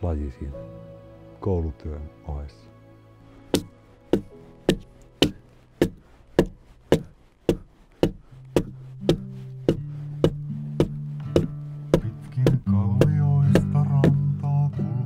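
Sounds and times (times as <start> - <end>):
low sustained music notes: 0.0 - 7.4, 8.2 - 15.0.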